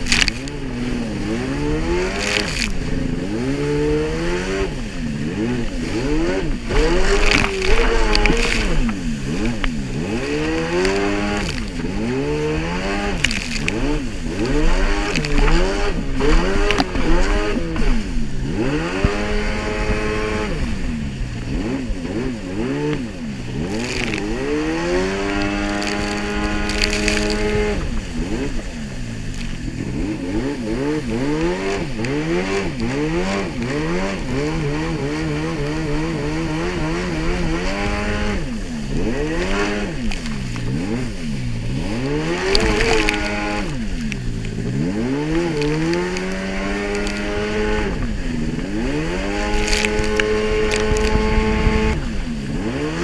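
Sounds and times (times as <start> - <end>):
jet ski engine: 0.0 - 53.0
water splashes: 0.0 - 53.0
wind and spray on microphone: 0.0 - 53.0.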